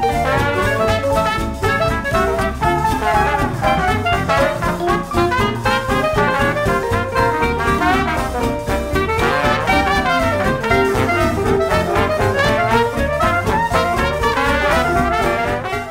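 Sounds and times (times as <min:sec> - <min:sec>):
upbeat jazz with brass: 0:00.0 - 0:15.9.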